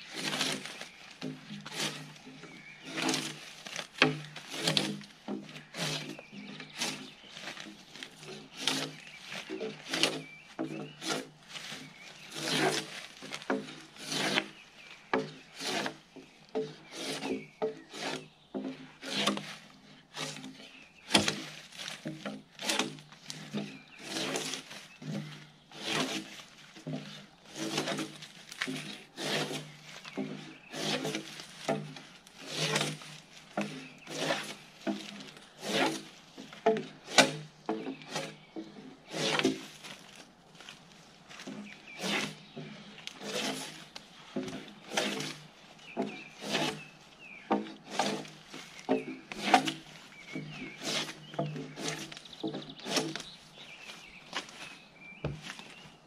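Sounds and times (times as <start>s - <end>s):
drawknife scraping bark: 0.1s - 40.2s, 41.3s - 55.8s.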